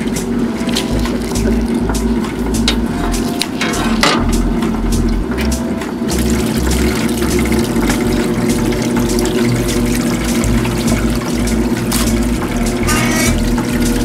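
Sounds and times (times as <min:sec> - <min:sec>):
washing machine motor humming: 0:00.0 - 0:14.0
water splashing and pouring: 0:00.0 - 0:14.0.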